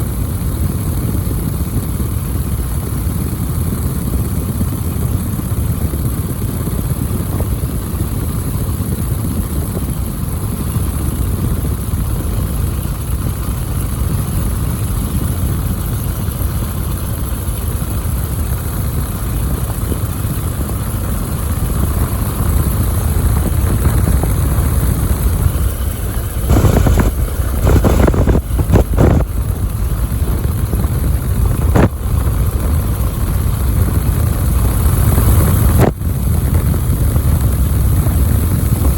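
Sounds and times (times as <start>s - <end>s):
plane piston engine and propeller: 0.0s - 38.9s.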